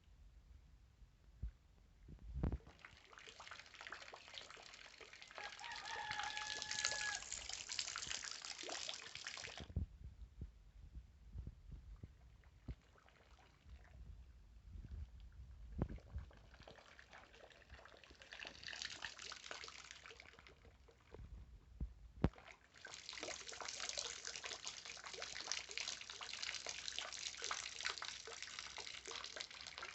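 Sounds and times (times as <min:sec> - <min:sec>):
water splashing and trickling: 0:02.4 - 0:09.8, 0:12.0 - 0:21.5, 0:22.2 - 0:29.9.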